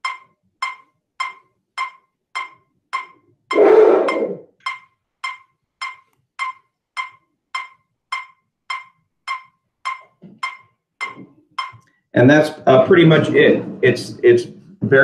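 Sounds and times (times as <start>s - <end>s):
metronome ticking: 0.0s - 14.6s.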